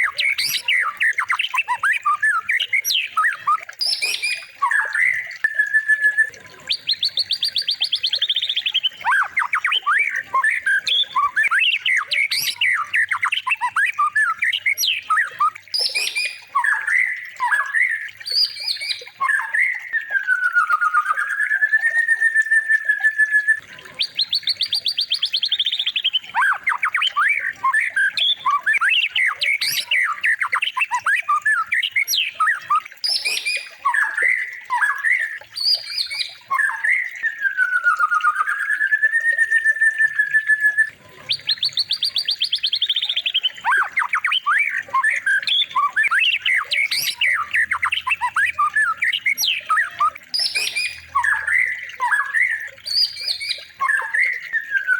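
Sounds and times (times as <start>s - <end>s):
songbird trilling and whistling: 0.0s - 54.9s.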